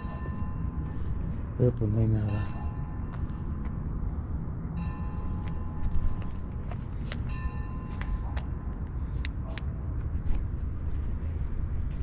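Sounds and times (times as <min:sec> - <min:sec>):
wind rumbling on microphone: 0:02.3 - 0:12.0.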